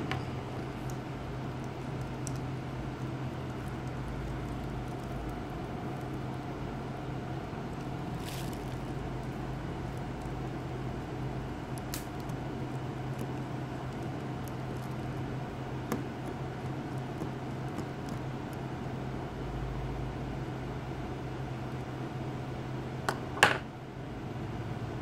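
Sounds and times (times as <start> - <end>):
low hum and hiss: 0.0 - 25.0.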